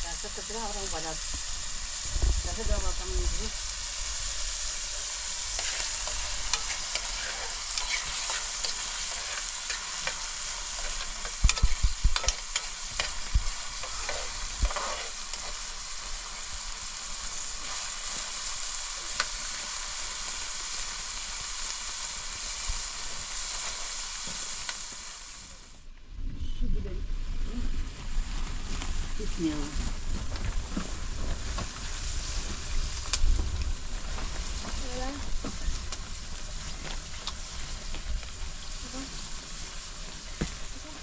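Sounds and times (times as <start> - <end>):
food sizzling in a pan: 0.0 - 25.8, 27.2 - 41.0.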